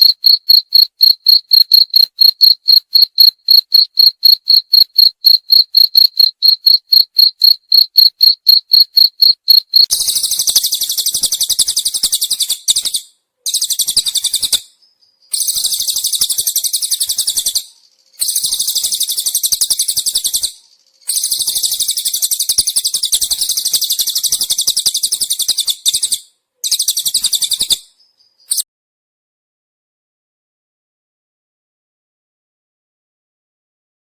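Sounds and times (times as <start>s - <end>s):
bird high-pitched pulsed trills: 0.0s - 28.6s
crickets: 0.0s - 28.6s.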